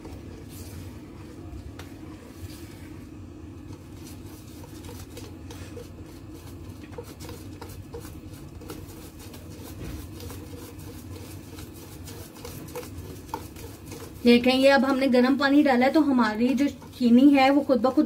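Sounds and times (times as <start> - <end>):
whisk scraping metal bowl: 0.0 - 1.2, 3.6 - 18.0
low background hum: 0.0 - 18.0.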